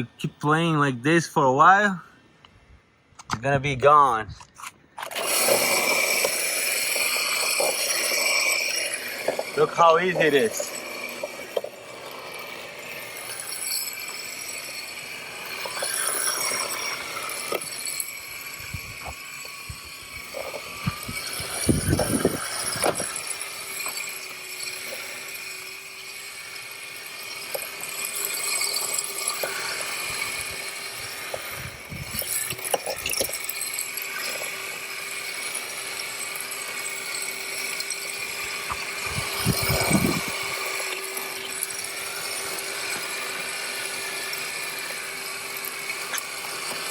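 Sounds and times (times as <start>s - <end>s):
electric motor whining: 5.0s - 46.9s.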